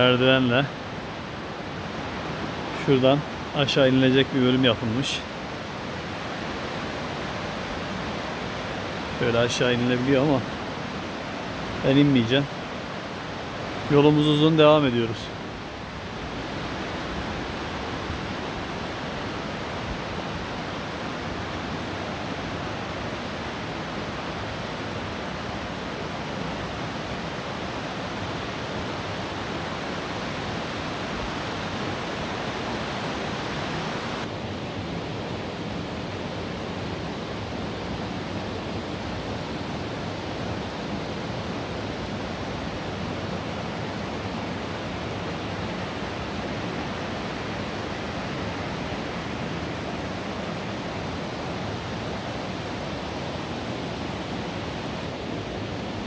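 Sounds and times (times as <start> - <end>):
rocky mountain stream rushing: 0.0 - 56.0.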